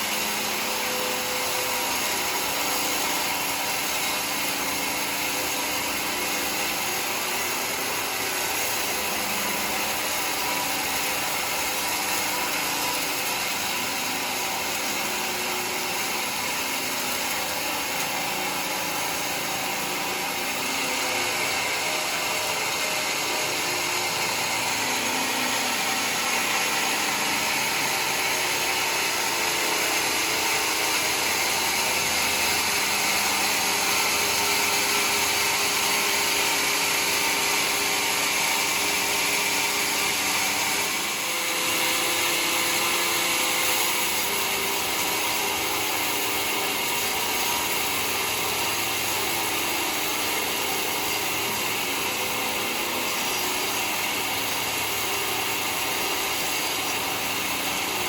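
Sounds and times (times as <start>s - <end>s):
sawmill sawing wood: 0.0s - 58.0s.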